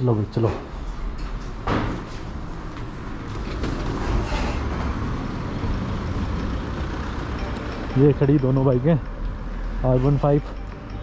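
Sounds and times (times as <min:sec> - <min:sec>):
road noise rumble: 0:00.0 - 0:11.0.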